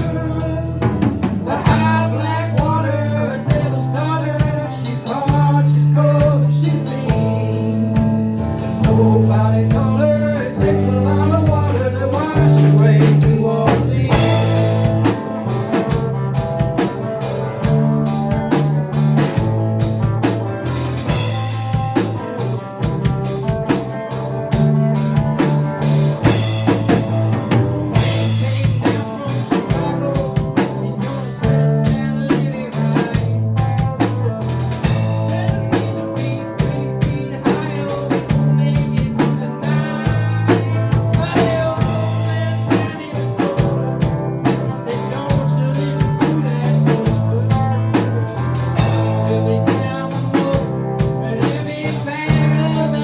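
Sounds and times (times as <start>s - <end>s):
blues-rock band playing: 0.0s - 53.0s
drum kit beat: 0.0s - 53.0s.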